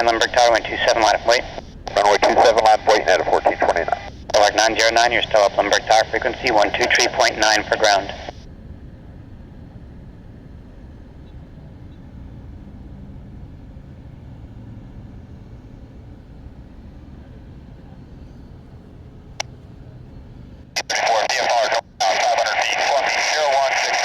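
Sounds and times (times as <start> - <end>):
distant jet engines rumble: 0.0 - 24.0.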